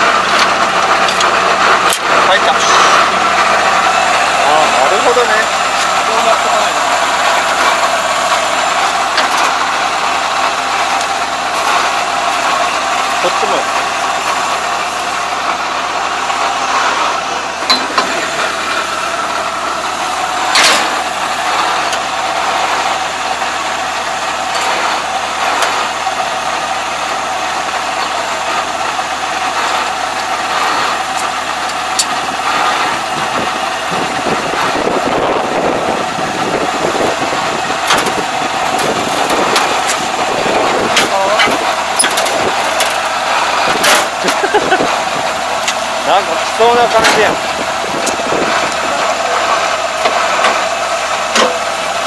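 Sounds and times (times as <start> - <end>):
combine harvester idling: 0.0 - 52.0.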